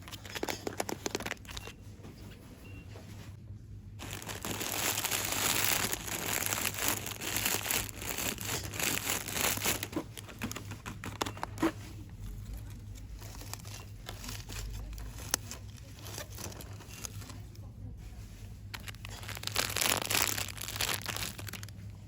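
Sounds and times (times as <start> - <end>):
packaging crinkling: 0.0 - 1.7, 4.0 - 11.8, 12.4 - 17.5, 18.7 - 22.0.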